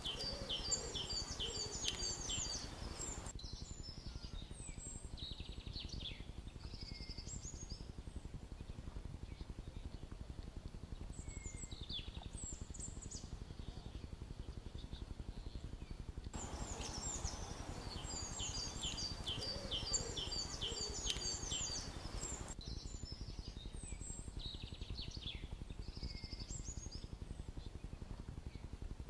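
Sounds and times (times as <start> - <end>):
birds chirping: 0.0 - 7.9, 11.0 - 26.9
low outdoor rumble: 0.0 - 29.0.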